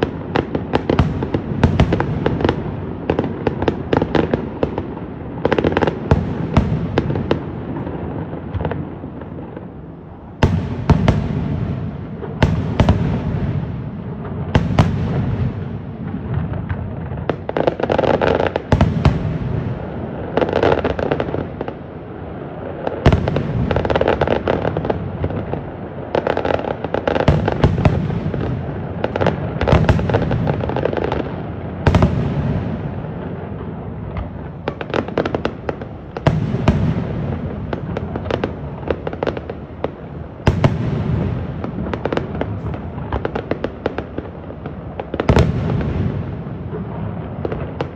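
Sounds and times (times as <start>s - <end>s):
fireworks crackle: 0.0s - 47.9s.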